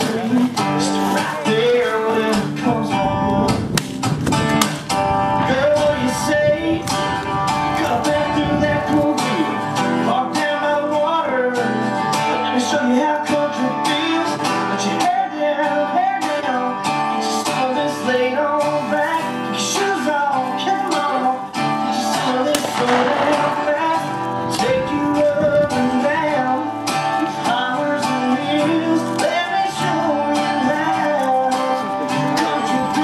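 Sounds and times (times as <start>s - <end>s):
guitar-led country music: 0.0s - 33.0s.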